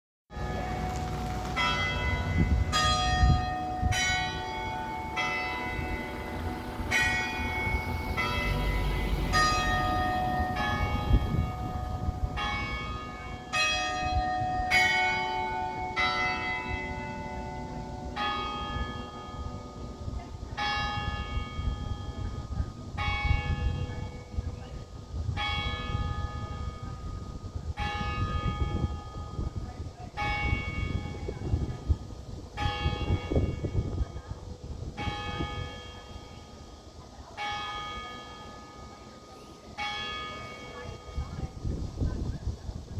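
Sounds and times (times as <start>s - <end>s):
church bells ringing: 0.3s - 42.3s.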